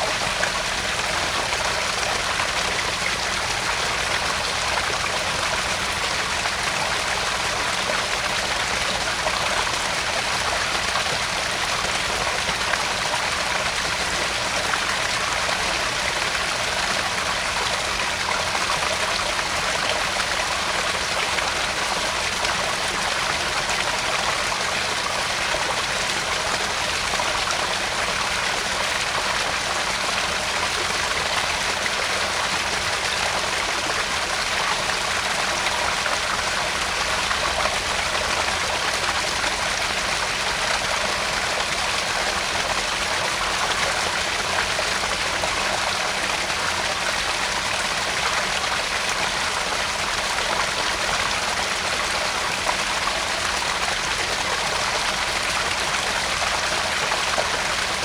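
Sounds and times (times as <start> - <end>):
pond waterfall splashing: 0.0 - 58.0.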